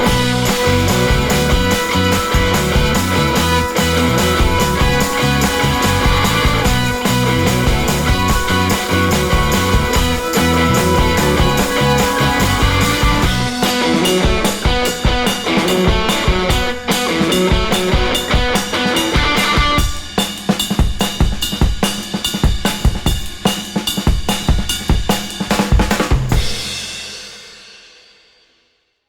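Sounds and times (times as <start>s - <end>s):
drum-kit beat: 0.0s - 27.3s.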